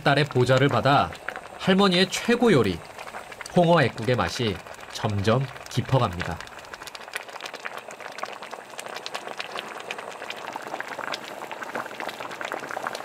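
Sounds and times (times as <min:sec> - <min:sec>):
soup bubbling at a rolling boil: 0:00.0 - 0:13.0.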